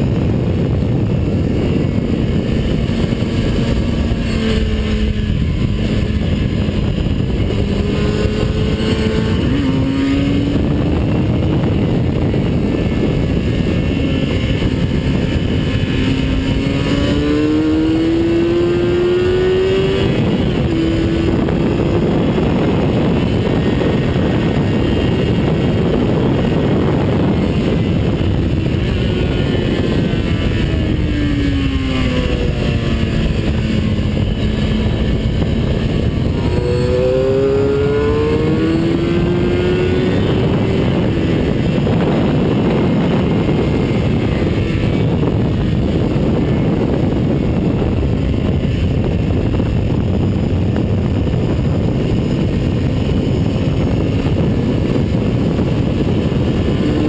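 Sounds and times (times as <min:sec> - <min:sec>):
racing engine accelerating: 0:00.0 - 0:57.0
wind rush: 0:00.0 - 0:57.0.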